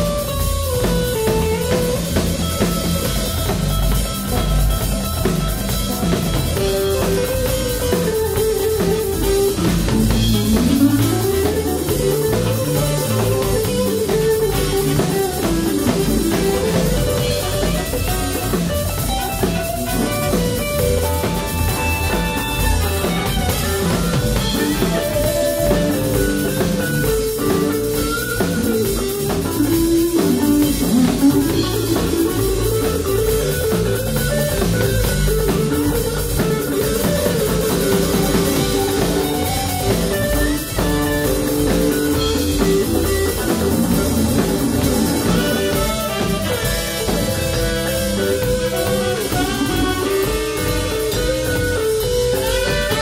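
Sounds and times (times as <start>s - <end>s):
drum kit: 0.0s - 53.0s
electric bass: 0.0s - 53.0s
electric guitar: 0.0s - 53.0s.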